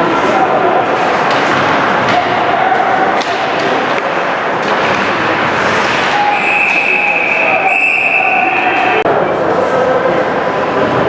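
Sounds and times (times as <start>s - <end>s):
crowd and rink noise: 0.0s - 11.0s.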